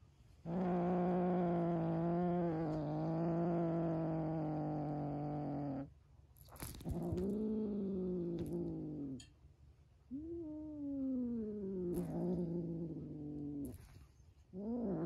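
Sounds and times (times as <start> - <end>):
kitten growling: 0.4 - 5.9, 6.5 - 9.3, 10.1 - 15.0.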